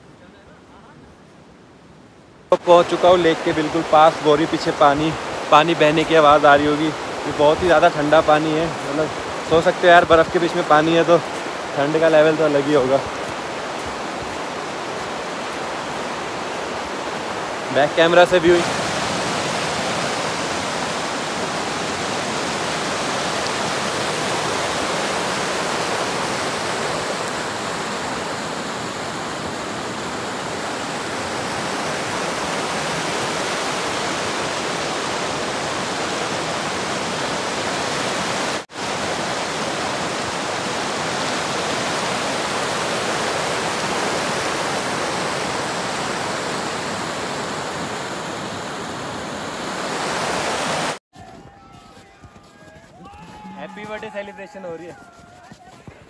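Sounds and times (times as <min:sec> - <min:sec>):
river rushing over rocks: 0:02.5 - 0:51.0.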